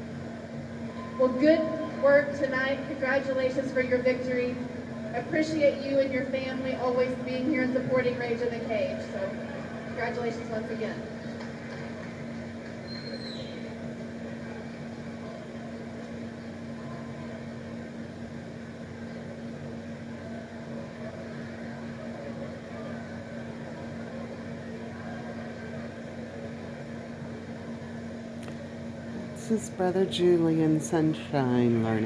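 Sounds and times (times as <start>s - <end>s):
constant humming tone: 0.0s - 32.0s.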